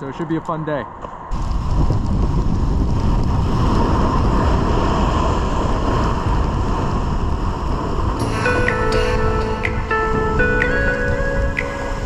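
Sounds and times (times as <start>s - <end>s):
wind buffeting microphone: 1.2s - 12.0s.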